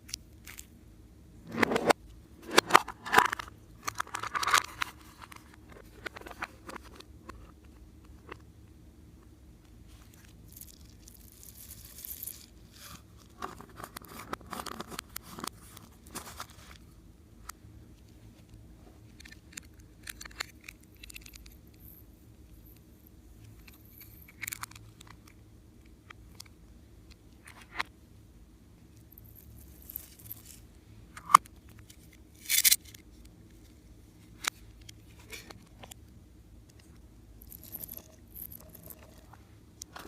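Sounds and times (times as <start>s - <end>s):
faint low hum: 0.0s - 40.0s.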